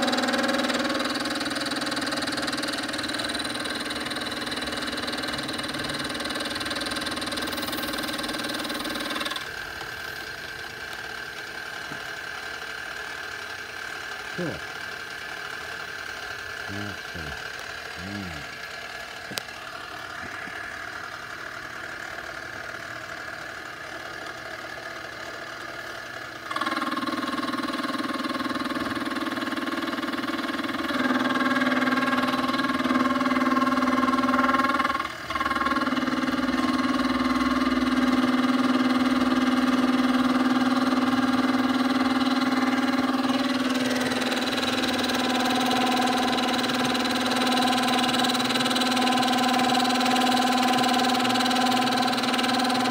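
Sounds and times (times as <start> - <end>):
milling machine motor whining: 0.0 - 22.6, 26.1 - 52.9.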